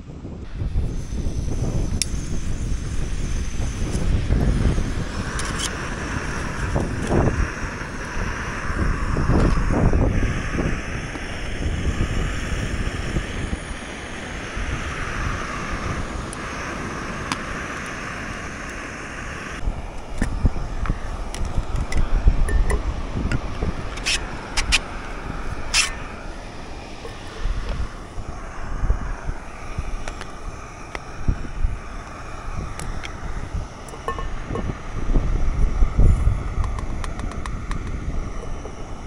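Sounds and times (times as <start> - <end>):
gas burner hissing: 0.0 - 39.0
wind buffeting microphone: 0.0 - 39.0.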